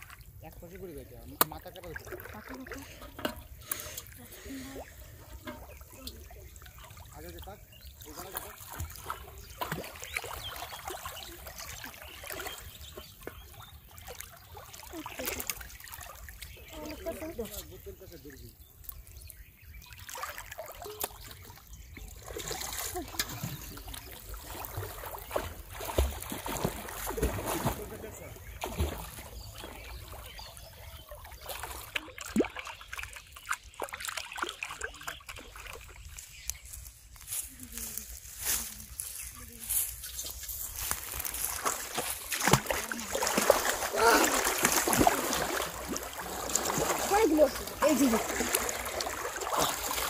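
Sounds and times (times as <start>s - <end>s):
pond water sloshing and trickling: 0.0s - 50.0s
small water splashes: 0.0s - 50.0s.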